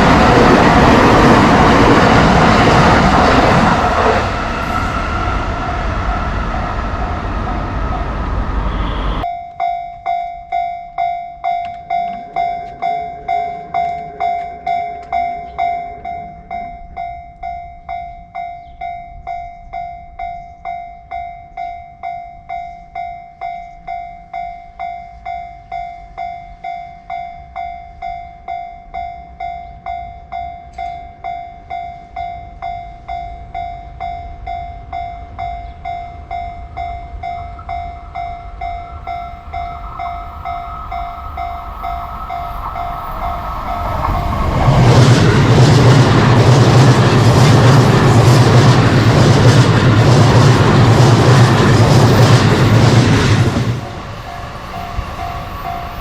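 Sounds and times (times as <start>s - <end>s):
level crossing warning bell: 0.0s - 56.0s
train passing with rail noise: 0.0s - 56.0s.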